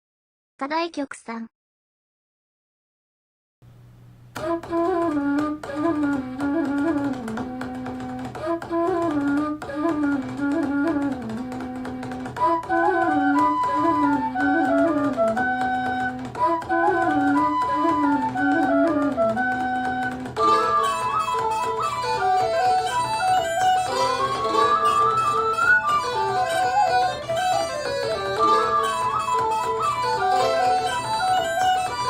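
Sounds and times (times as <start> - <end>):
instrumental music through speaker: 4.4 - 32.0.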